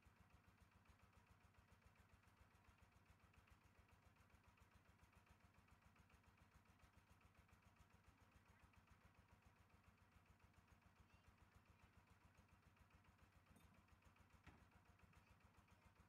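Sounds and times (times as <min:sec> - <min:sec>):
faint engine running: 0:00.1 - 0:16.0.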